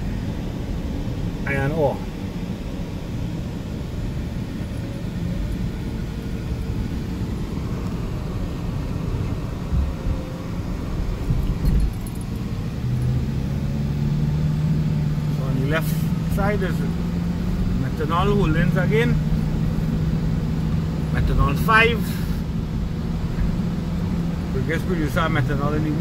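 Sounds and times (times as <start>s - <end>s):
steady low hum: 0.0s - 25.6s
car engine and tyre noise: 0.0s - 26.0s.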